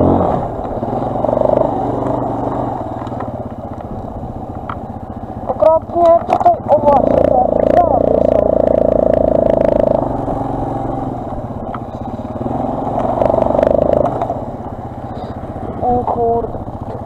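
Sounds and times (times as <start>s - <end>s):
quad engine revving: 0.0s - 4.0s, 5.4s - 17.0s.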